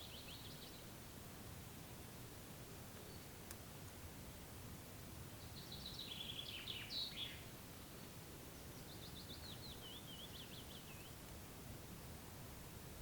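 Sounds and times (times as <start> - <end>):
faint background hiss: 0.0 - 13.0
songbird singing: 0.0 - 13.0.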